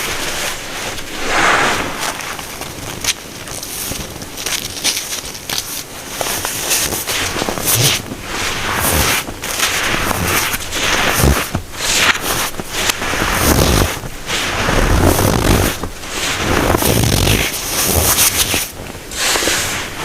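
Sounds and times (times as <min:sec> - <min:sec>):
baking soda crunching and squeaking: 0:02.0 - 0:19.9.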